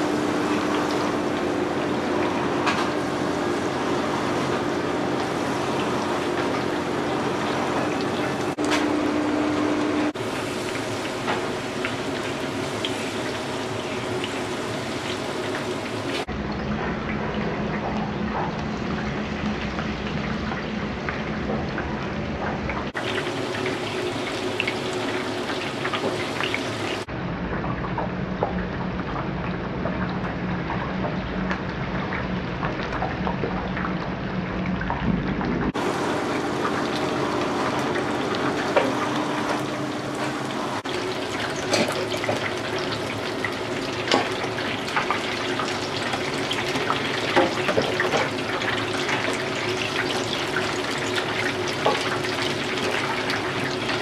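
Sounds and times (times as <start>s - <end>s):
oil sizzling: 0.0s - 35.1s, 35.7s - 54.0s.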